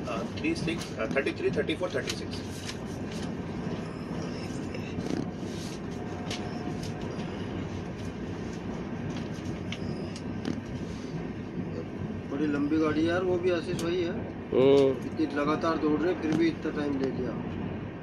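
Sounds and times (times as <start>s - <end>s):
train rumble inside coach: 0.0s - 18.0s.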